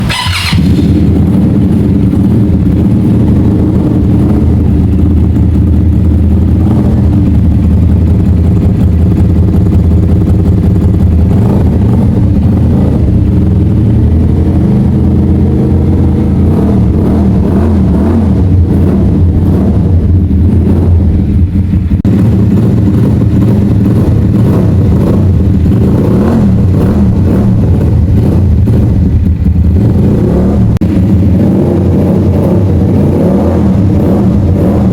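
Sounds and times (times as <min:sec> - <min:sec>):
motorcycle engine rumbling: 0:00.0 - 0:34.9.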